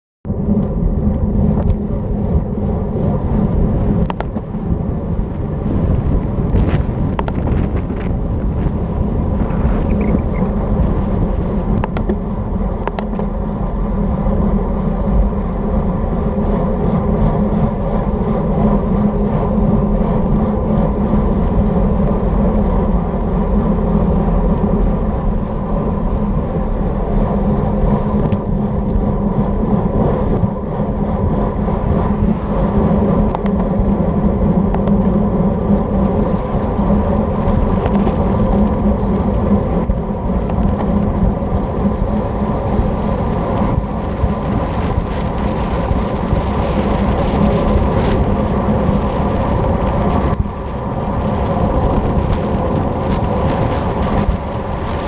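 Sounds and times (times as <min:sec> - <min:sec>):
wind buffeting microphone: 0:00.2 - 0:55.0
bike tyre noise on pavement: 0:00.3 - 0:55.0.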